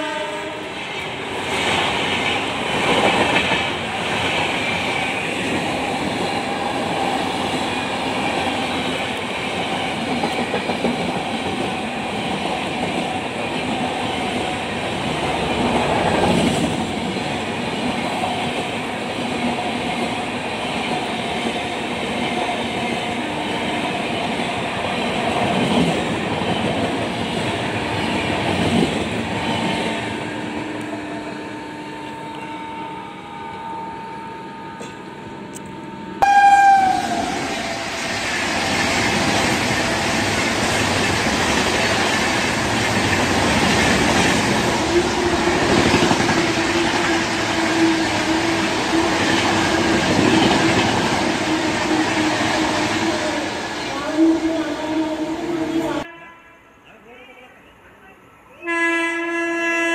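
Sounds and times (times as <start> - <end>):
train coaches passing at speed: 0.0 - 56.1.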